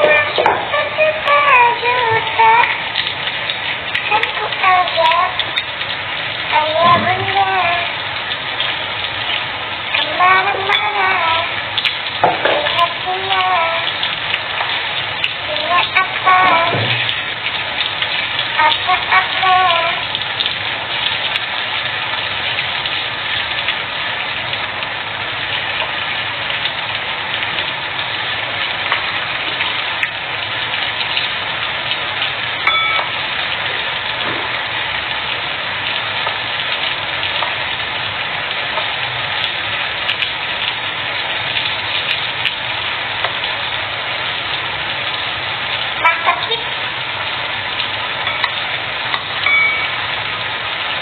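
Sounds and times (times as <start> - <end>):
oil sizzling in a pan: 0.0 - 51.0.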